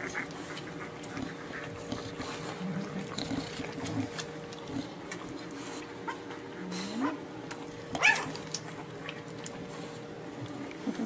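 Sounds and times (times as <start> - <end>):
puppies grunting: 0.0 - 11.0
puppies suckling: 0.0 - 11.0.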